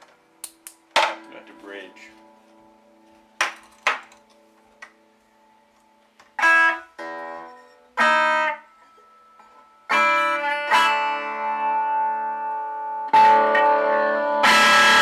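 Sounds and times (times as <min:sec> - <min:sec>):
clean electric guitar chords strummed: 0:01.1 - 0:03.4, 0:04.2 - 0:15.0.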